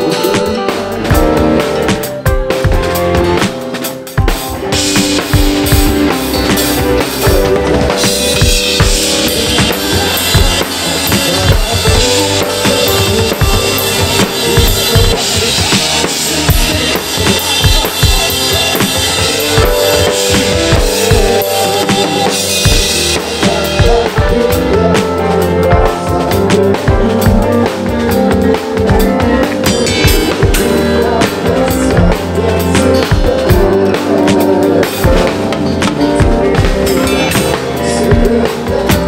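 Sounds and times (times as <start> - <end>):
drum kit groove: 0.0 - 39.0
sustained pitched notes: 0.0 - 39.0.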